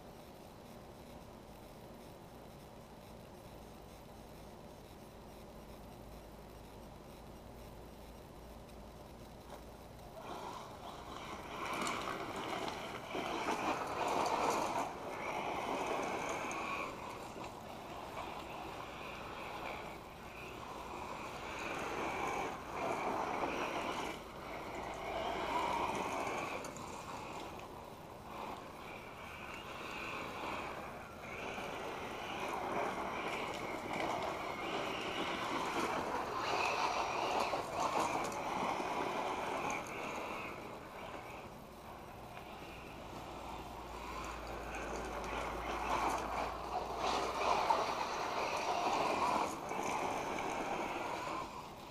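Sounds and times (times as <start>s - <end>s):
electric motor whine: 9.3s - 51.9s
tyres crunching gravel: 10.2s - 51.9s.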